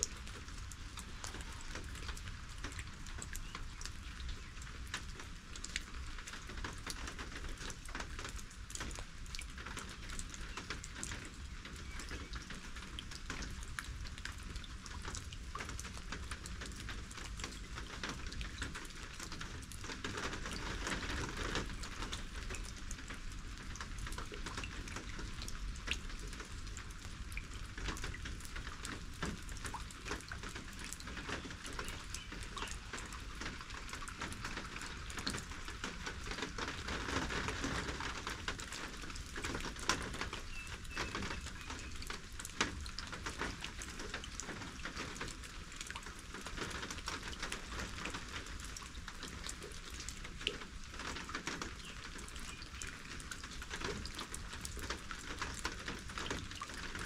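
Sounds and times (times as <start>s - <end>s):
raindrops ticking on surfaces: 0.0s - 57.0s
steady rain falling: 0.0s - 57.0s.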